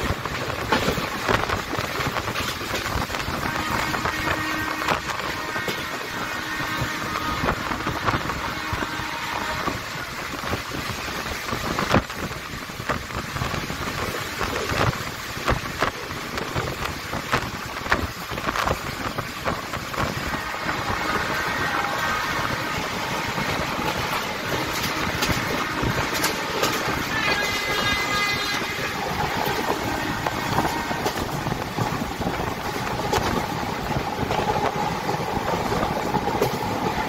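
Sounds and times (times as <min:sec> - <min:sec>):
wheels clacking over rail joints: 0:00.0 - 0:06.1, 0:10.7 - 0:37.0
train rumbling along track: 0:00.0 - 0:37.0.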